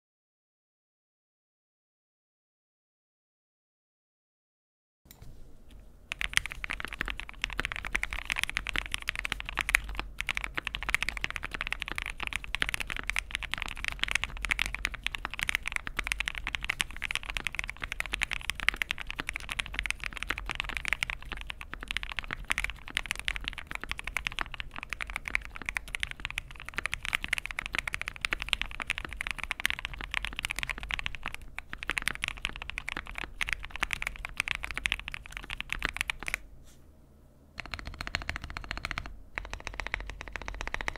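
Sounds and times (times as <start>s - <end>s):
typing on mechanical keyboard: 6.1s - 36.4s, 37.6s - 40.9s.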